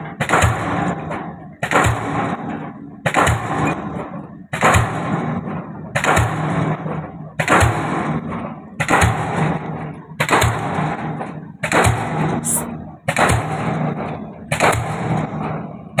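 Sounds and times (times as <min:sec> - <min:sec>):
pile hammer bangs: 0:00.0 - 0:16.0.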